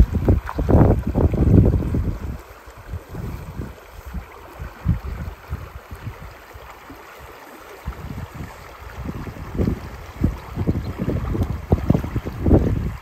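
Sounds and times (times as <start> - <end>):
creek water rushing: 0.0 - 13.0
wind buffeting microphone: 0.0 - 13.0.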